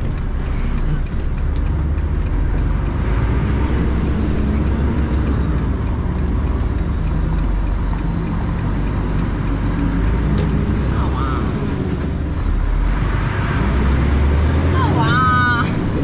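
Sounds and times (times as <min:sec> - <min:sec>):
diesel engine running: 0:00.0 - 0:16.0
tyre and road noise: 0:00.0 - 0:16.0.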